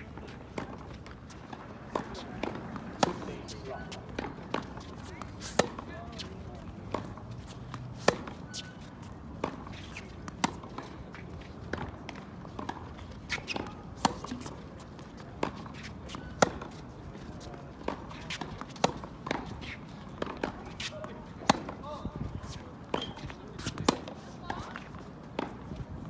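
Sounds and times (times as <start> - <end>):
racket hitting tennis ball: 0.0 - 25.8
tennis ball bouncing: 0.0 - 25.8
shoes scuffing on court: 0.0 - 25.9.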